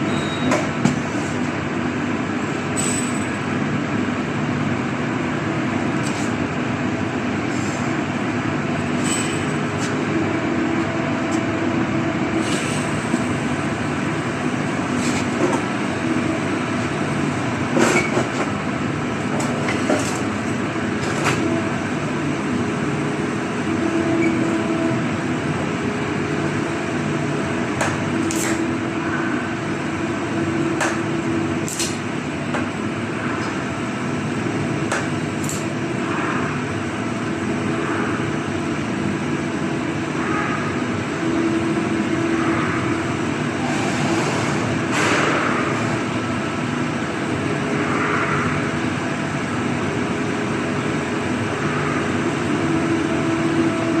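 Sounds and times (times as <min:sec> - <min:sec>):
welding machine drone: 0:00.0 - 0:54.0.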